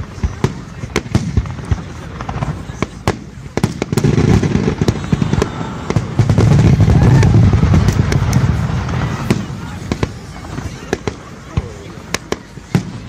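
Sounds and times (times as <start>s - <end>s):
firework cracks: 0.0s - 13.0s
rumble of firework booms: 0.0s - 13.0s.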